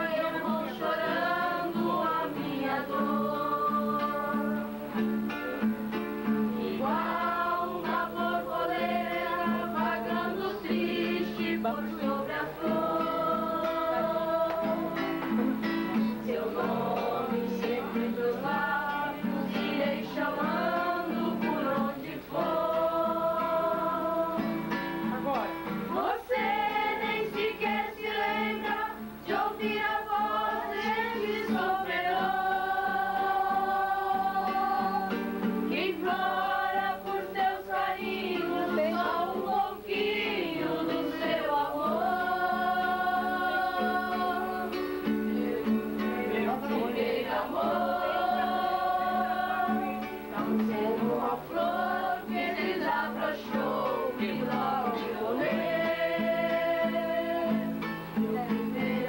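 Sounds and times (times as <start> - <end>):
acoustic guitar: 0.0 - 59.0
voices singing a slow song: 0.0 - 59.0.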